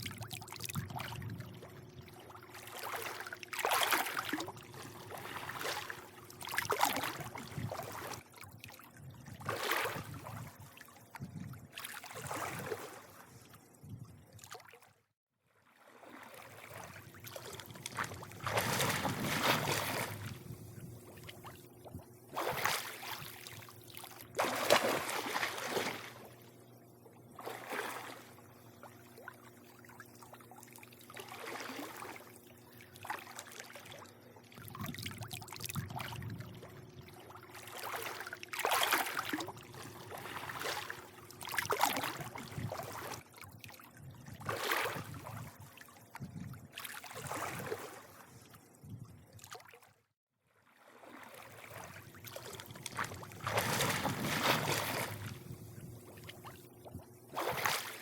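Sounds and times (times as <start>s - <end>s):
faint steady hum: 0.0s - 14.5s, 16.0s - 49.5s, 51.1s - 58.0s
pool water lapping and sloshing: 0.0s - 58.0s.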